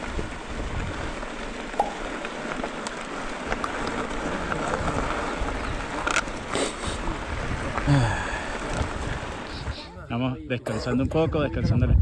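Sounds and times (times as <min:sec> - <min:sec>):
bike tyres crunching on gravel: 0:00.0 - 0:09.9
wind rumble on microphone: 0:00.0 - 0:09.9, 0:11.0 - 0:12.0.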